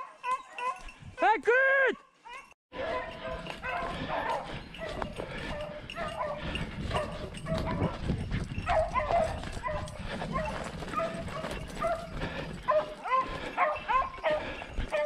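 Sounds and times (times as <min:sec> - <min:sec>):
pack of dogs baying: 0:00.0 - 0:01.0, 0:02.2 - 0:15.0.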